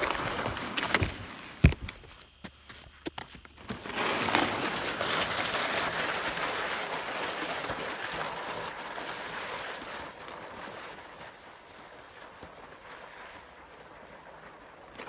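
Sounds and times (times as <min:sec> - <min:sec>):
sled scraping over ice: 0:00.0 - 0:01.7, 0:03.6 - 0:15.0.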